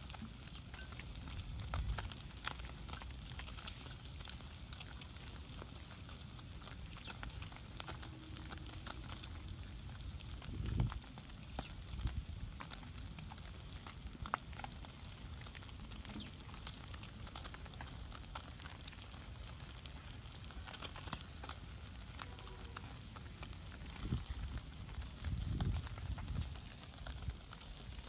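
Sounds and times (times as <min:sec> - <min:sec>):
fire crackling and popping: 0:00.0 - 0:28.0
steady sizzling hiss: 0:00.0 - 0:28.0.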